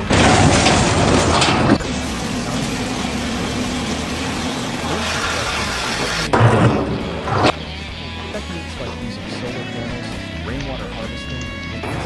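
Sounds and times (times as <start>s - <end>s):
machinery running: 0.0s - 12.0s.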